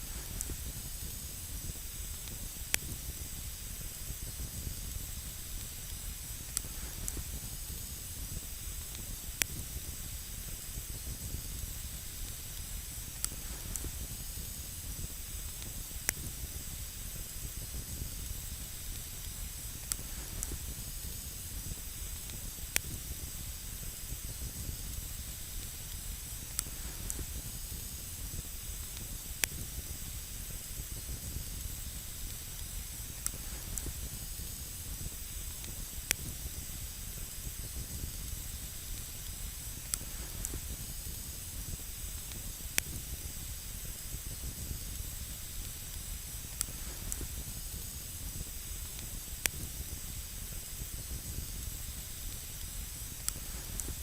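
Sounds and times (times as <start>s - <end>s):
campfire hissing: 0.0s - 54.0s
fire crackles and pops: 0.0s - 54.0s.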